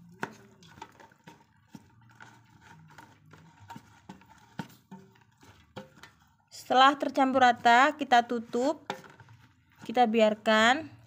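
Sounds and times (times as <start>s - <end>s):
spatula stirring sticky rice: 0.0s - 11.0s.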